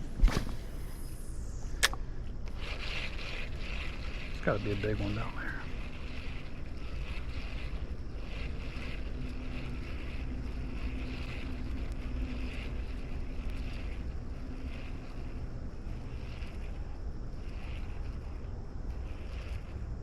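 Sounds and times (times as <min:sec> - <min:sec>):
river flowing: 0:01.8 - 0:19.9.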